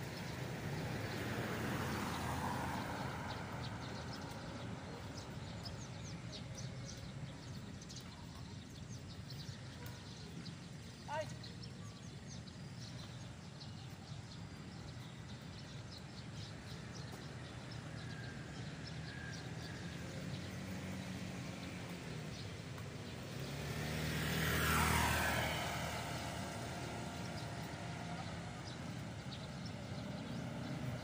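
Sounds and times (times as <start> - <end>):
vehicle passing by: 0.0 - 31.0.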